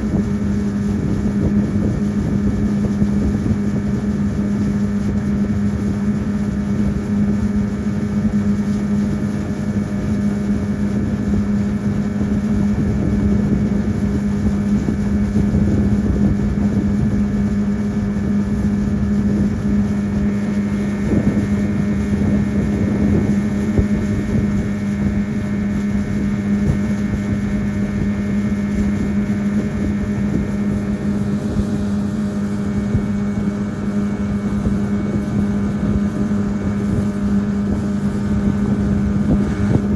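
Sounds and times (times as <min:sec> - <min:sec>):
motorboat engine droning: 0:00.0 - 0:39.9.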